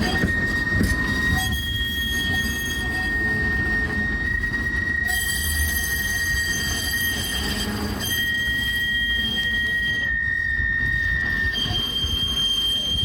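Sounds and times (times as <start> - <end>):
steady high-pitched tone: 0.0 - 13.0
tram rumbling on rails: 0.0 - 13.0.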